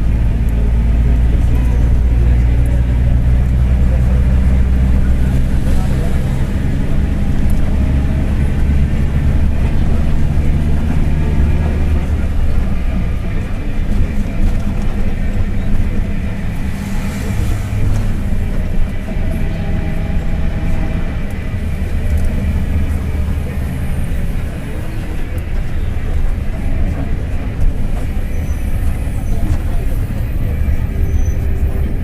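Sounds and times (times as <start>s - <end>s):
bus diesel engine drone: 0.0s - 32.0s
driveshaft rumble: 0.0s - 32.0s.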